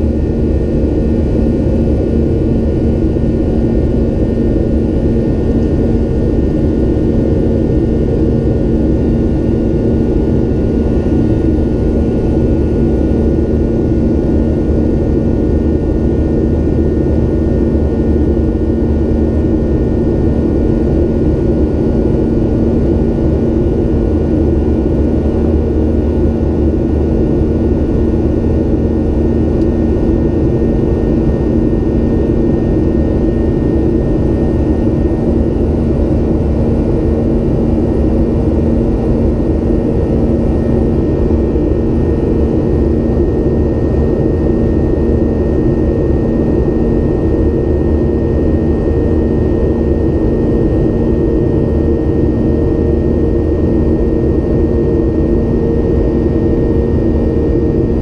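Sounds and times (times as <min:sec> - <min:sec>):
jet engine drone: 0:00.0 - 0:58.0
steady hums: 0:00.0 - 0:58.0.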